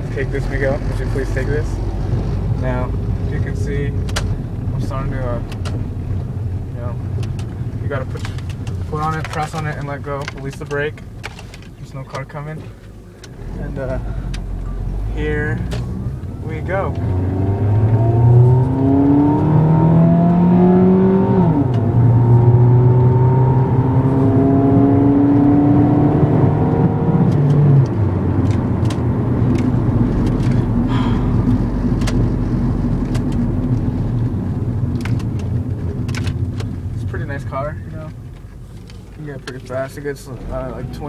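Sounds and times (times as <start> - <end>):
car engine accelerating: 0.0 - 41.0
road noise: 0.0 - 41.0.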